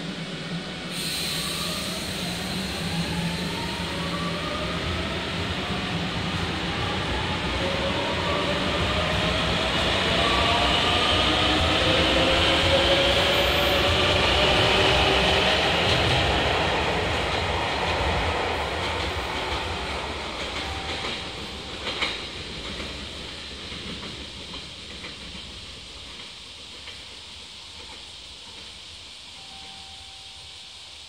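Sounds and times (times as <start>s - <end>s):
train wheels rumbling: 0.0s - 29.8s.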